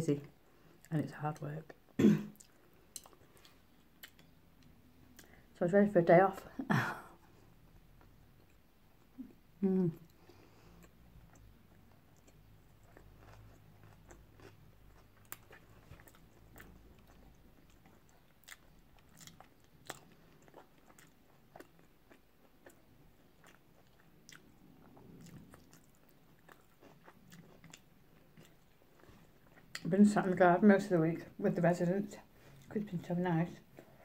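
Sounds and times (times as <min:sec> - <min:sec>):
faint chewing: 0:00.5 - 0:05.6, 0:07.3 - 0:30.0, 0:32.2 - 0:34.0.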